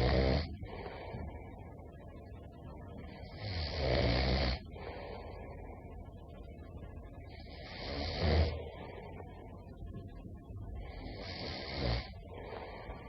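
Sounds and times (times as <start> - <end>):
quiet breathing: 0.0 - 13.0.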